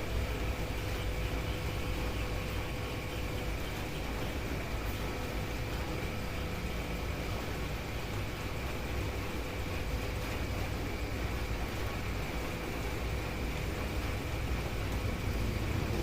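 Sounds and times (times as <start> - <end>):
faint steady hum: 0.0 - 16.0
steady rushing noise: 0.0 - 16.0.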